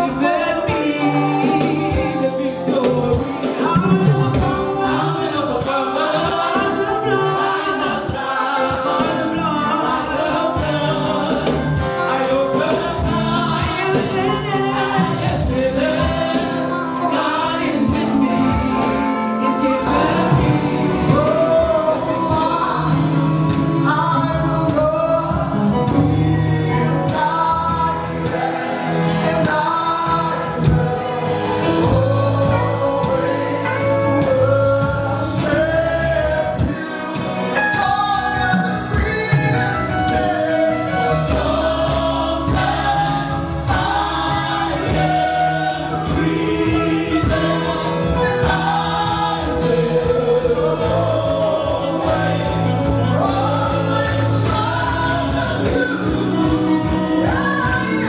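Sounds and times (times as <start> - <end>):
group singing gospel music: 0.0 - 58.0
instrumental backing: 0.0 - 58.0.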